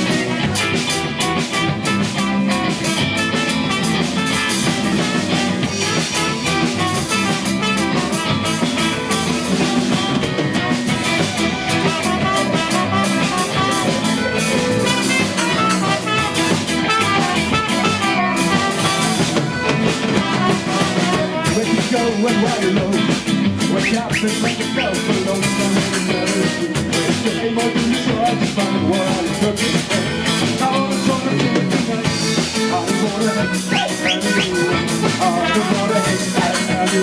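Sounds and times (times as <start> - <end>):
drum kit beat: 0.0 - 37.0
electric guitar: 0.0 - 37.0.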